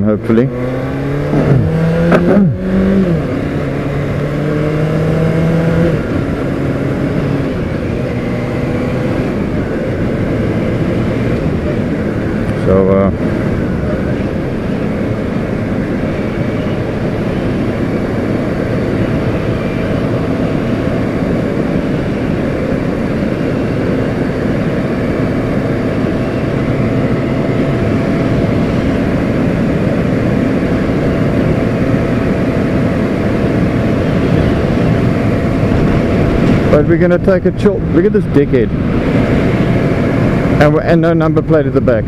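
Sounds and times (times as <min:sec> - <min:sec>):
motorcycle engine cruising: 0:00.0 - 0:42.0
wind noise: 0:00.0 - 0:42.0.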